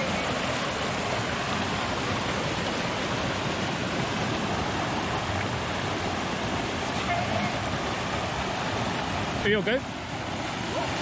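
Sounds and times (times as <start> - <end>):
flowing creek water: 0.0 - 11.0.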